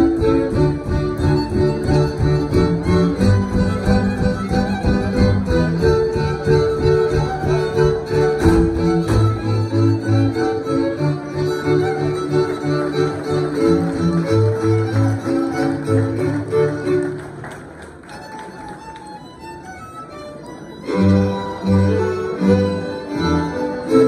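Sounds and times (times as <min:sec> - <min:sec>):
string band playing: 0:00.0 - 0:24.0.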